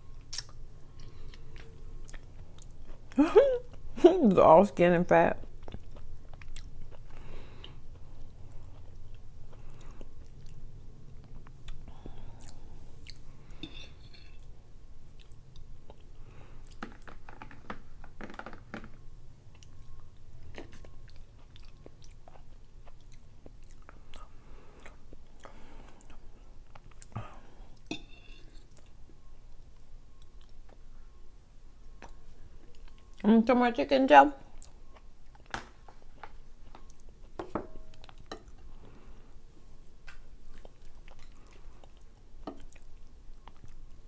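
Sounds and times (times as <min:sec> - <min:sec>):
low steady hum: 0:00.0 - 0:44.0
person chewing: 0:00.1 - 0:03.9, 0:05.5 - 0:14.5, 0:15.1 - 0:17.2, 0:19.5 - 0:30.9, 0:34.5 - 0:44.0.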